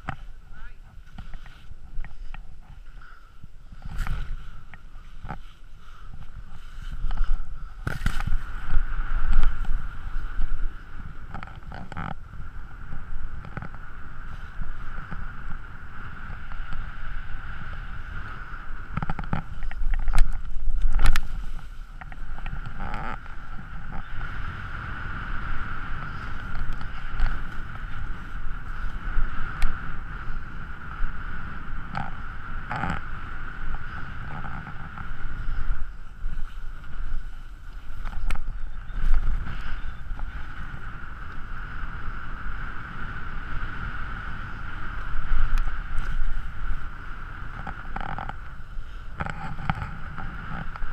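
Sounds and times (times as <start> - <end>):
scrape of riding over snow: 0.0 - 50.9
wind rushing over microphone: 0.0 - 50.9.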